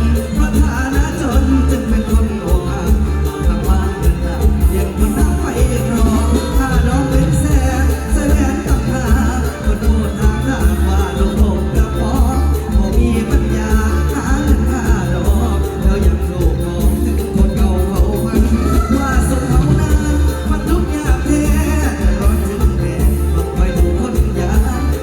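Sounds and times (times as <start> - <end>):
heavy bass beat: 0.0 - 25.0
live band playing: 0.0 - 25.0.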